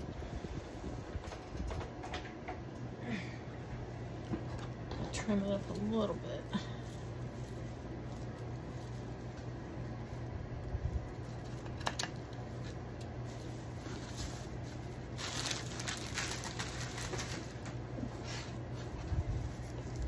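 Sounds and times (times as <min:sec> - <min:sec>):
dry strands rustling: 0:00.0 - 0:01.7, 0:03.0 - 0:20.0
steady low hum: 0:00.0 - 0:20.0.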